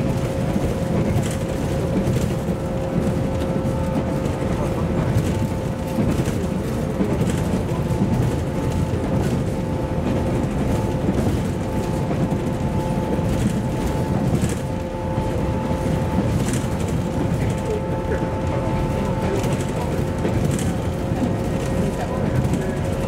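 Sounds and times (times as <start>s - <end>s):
traction motor whine: 0.0s - 23.0s
train rumbling and rattling: 0.0s - 23.0s.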